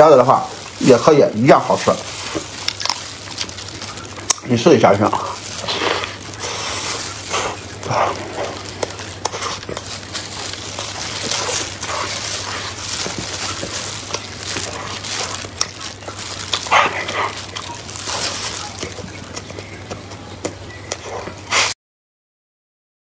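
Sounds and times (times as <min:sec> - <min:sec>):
wet chewing sounds: 0:00.0 - 0:21.8.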